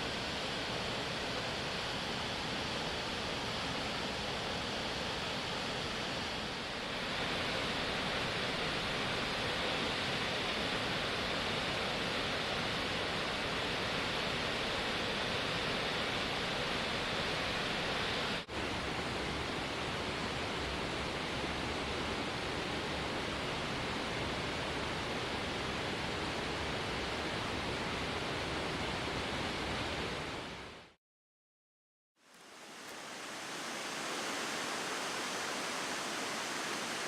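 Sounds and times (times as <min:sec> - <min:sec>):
waterfall roaring: 0:00.0 - 0:30.7, 0:32.4 - 0:37.0.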